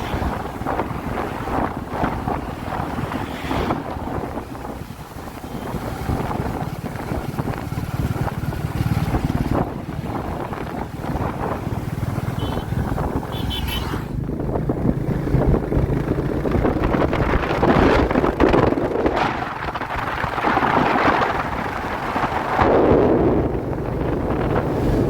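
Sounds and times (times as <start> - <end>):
wind buffeting microphone: 0.0 - 13.4, 14.1 - 25.0.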